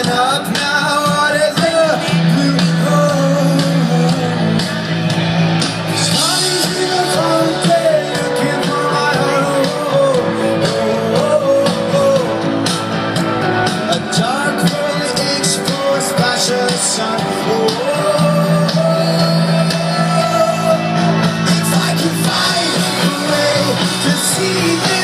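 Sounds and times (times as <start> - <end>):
person singing: 0.0 - 5.0, 5.8 - 25.0
live rock band playing: 0.0 - 25.0.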